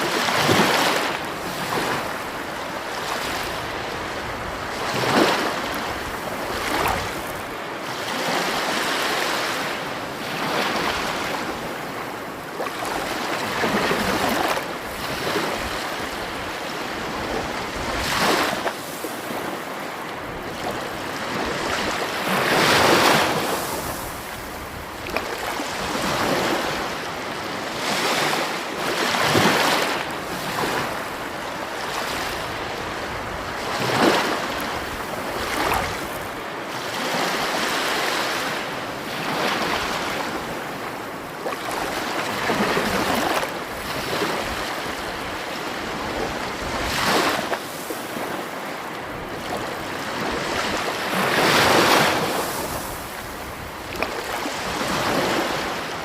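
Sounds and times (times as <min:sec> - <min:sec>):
sea waves breaking on stony shore: 0:00.0 - 0:56.0.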